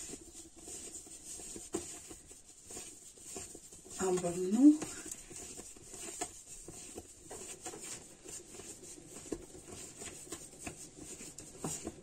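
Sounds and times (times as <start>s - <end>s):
hands tapping pizza dough: 0.0s - 12.0s
parchment paper rustling: 0.0s - 12.0s.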